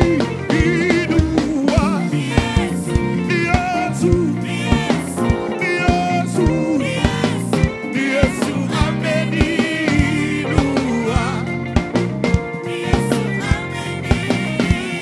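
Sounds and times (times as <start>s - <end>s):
band with keyboard: 0.0s - 15.0s
congregation singing: 0.0s - 15.0s
drum beat: 0.0s - 15.0s.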